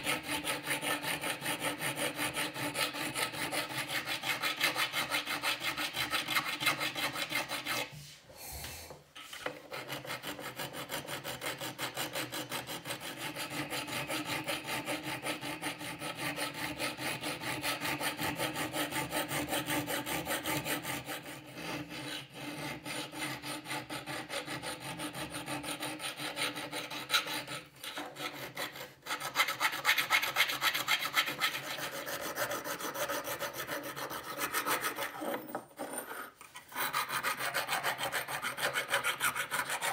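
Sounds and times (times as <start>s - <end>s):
hand file rasping on steel: 0.0s - 8.0s, 9.4s - 39.9s.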